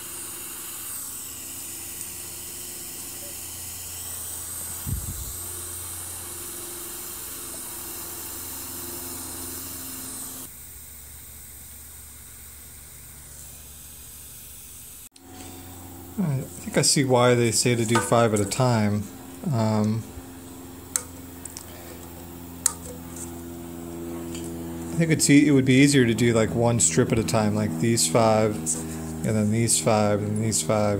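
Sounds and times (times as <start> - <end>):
low electrical hum: 0.0 - 30.9
steady hiss: 0.0 - 30.9.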